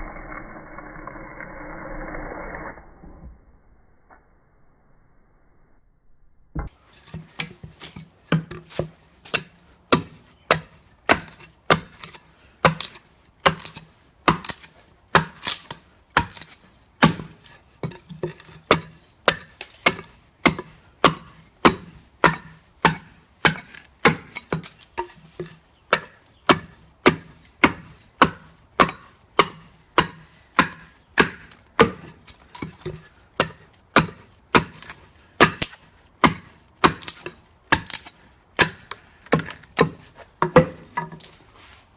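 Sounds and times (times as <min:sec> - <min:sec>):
tool chopping into wood: 0:06.6 - 0:41.4.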